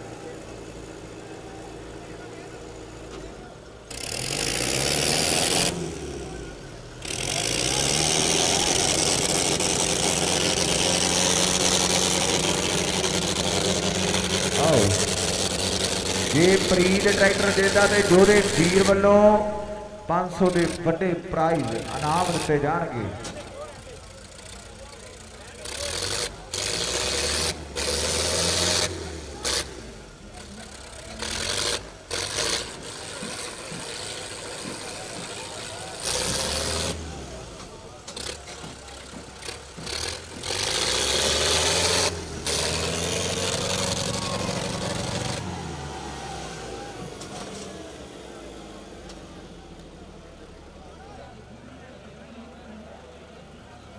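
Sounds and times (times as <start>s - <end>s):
tractor engine revving: 0.0s - 51.4s.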